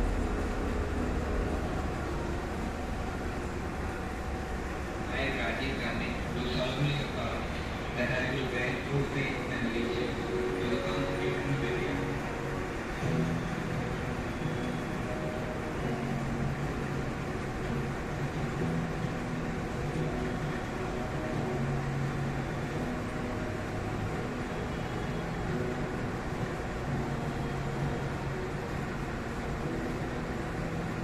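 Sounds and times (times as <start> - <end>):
room hum and hiss: 0.0 - 31.0.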